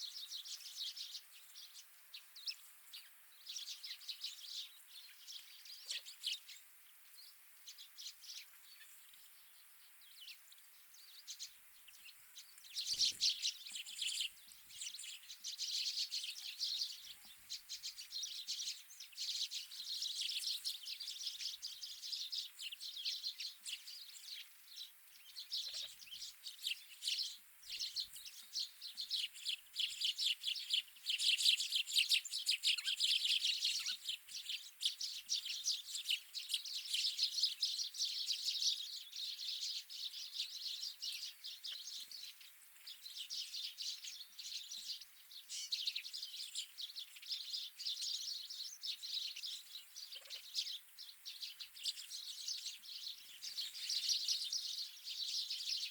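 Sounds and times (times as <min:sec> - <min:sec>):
birds chirping and twittering: 0:00.0 - 0:55.9.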